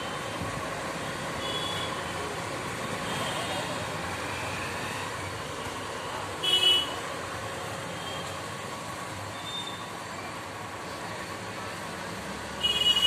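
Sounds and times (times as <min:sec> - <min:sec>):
background traffic noise: 0:00.0 - 0:13.0.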